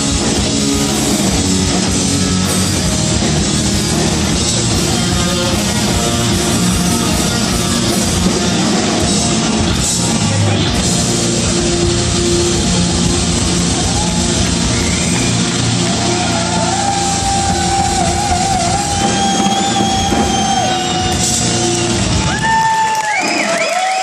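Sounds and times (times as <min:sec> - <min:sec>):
live rock band: 0:00.0 - 0:23.7.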